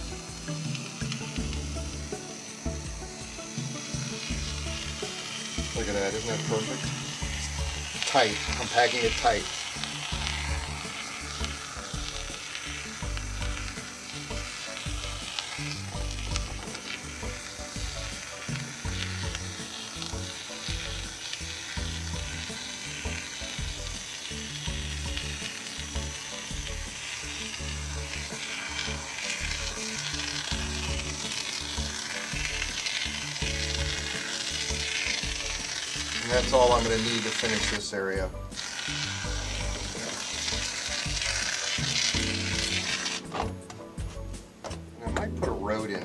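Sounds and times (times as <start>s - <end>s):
foam hissing from a can: 0.0s - 44.7s.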